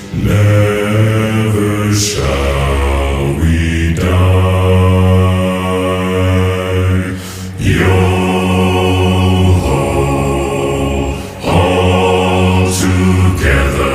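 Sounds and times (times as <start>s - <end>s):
low male voices singing: 0.0s - 13.9s.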